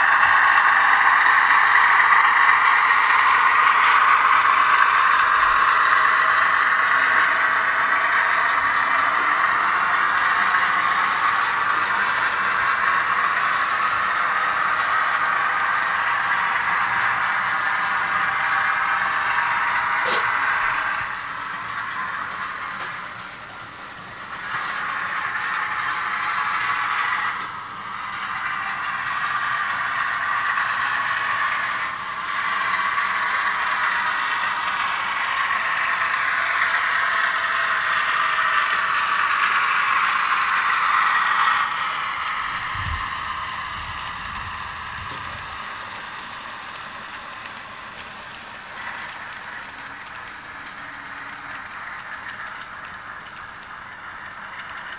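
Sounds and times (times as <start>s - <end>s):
diesel engine through small speaker: 0.0s - 54.9s.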